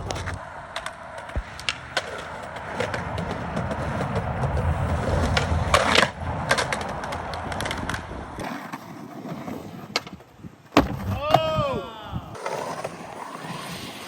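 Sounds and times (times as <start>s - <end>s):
skateboard scraping: 0.0s - 11.6s, 12.2s - 14.0s
skateboard clacks: 0.0s - 13.3s
skateboard wheels rolling: 0.0s - 14.0s.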